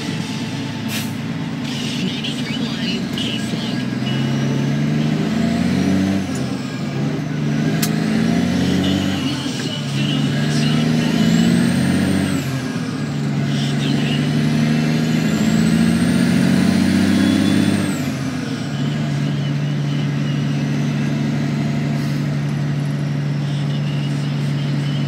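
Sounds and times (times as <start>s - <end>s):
truck diesel engine shifting gears: 0.0s - 25.0s.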